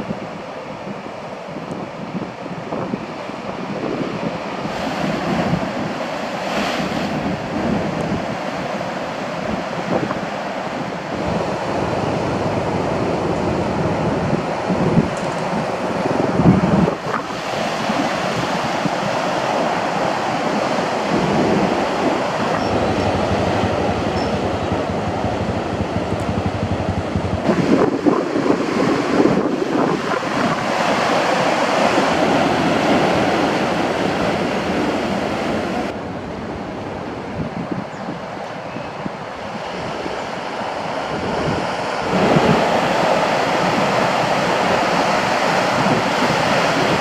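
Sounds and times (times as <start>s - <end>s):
ocean surf breaking: 0.0s - 47.0s.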